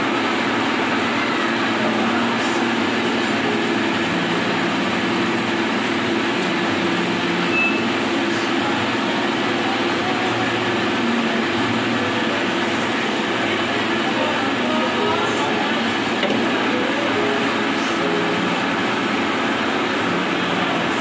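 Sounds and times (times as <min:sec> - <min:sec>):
workshop machinery droning: 0:00.0 - 0:21.0.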